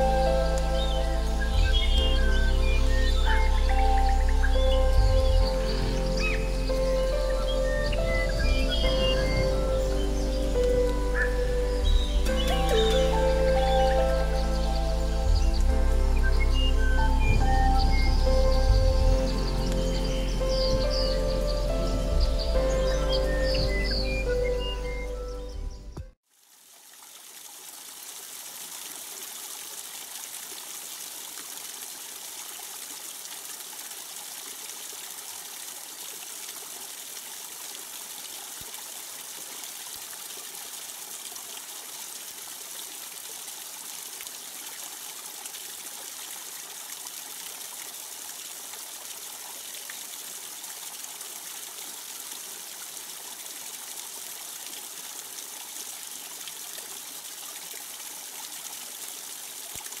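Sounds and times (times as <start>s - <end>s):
water trickling and splashing: 0.0s - 60.0s.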